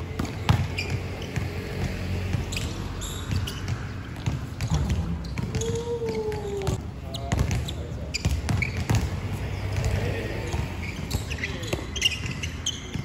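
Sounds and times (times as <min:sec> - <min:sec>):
basketball bouncing on court: 0:00.0 - 0:13.0
shoe squeaks: 0:00.1 - 0:13.0.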